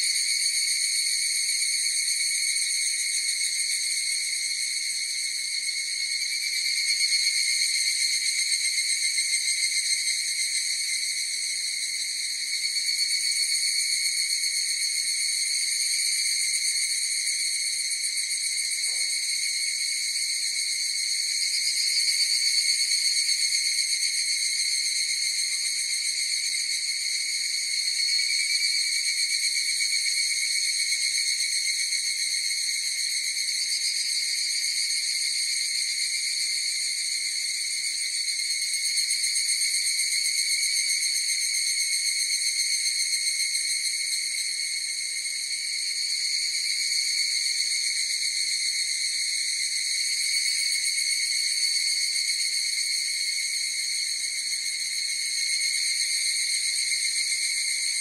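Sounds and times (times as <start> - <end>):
cicadas chorus: 0.0 - 58.0.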